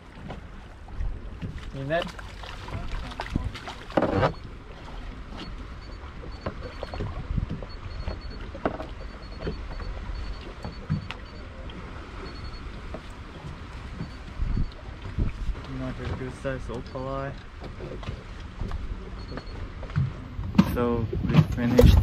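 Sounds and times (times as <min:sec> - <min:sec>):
wind rumbling on microphone: 0:00.0 - 0:16.6, 0:17.5 - 0:22.0
water lapping against hull: 0:00.0 - 0:22.0.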